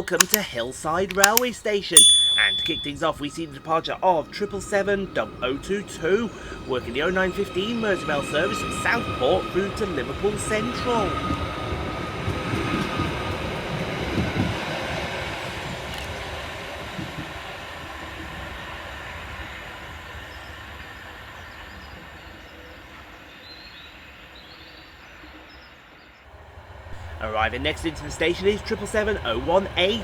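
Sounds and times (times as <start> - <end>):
electric train pulling away: 3.0 - 25.4, 26.4 - 30.0.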